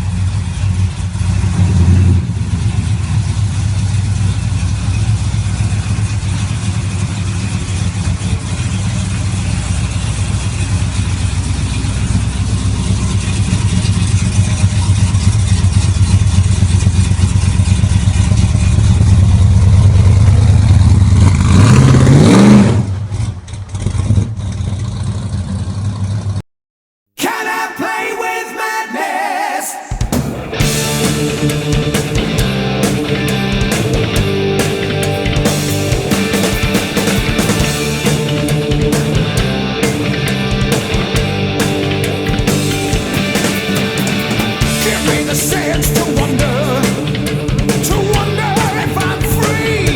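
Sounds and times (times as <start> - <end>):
car engine idling and revving: 0.0 - 26.4, 30.6 - 49.9.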